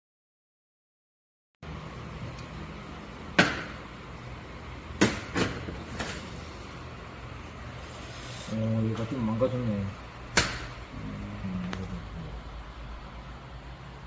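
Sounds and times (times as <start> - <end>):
steady low hum: 1.6 - 14.0.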